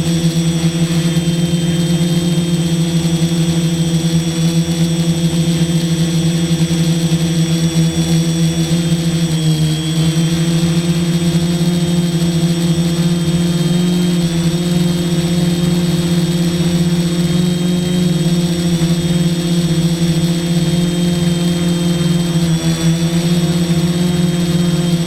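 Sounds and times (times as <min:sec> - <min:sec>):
high electric whine: 0:00.0 - 0:25.0
quadcopter motors buzzing: 0:00.0 - 0:25.0.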